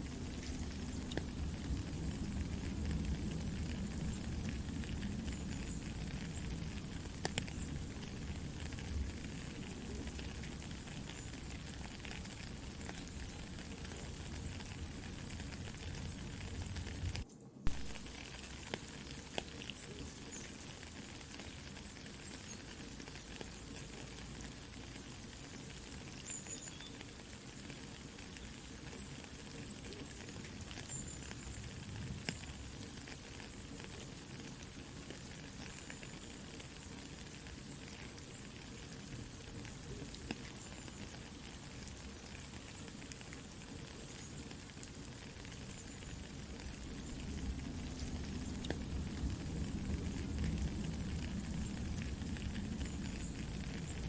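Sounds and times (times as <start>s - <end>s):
campfire crackling: 0.0s - 54.0s
rain hiss: 0.0s - 54.0s.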